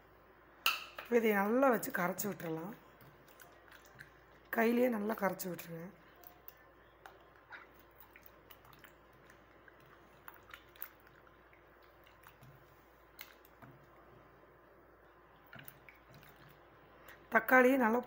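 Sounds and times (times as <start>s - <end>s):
tomatoes squelching in water: 1.8s - 14.2s, 15.2s - 17.4s.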